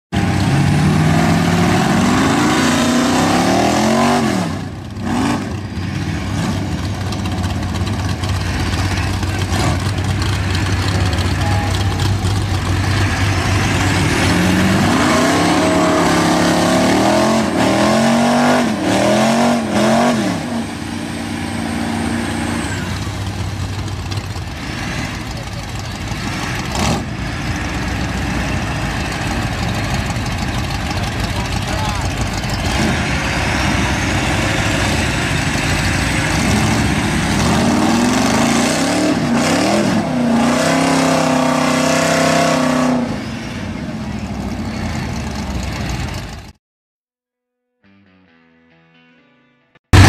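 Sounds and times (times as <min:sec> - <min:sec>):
truck engines revving hard: 0:00.1 - 0:46.6.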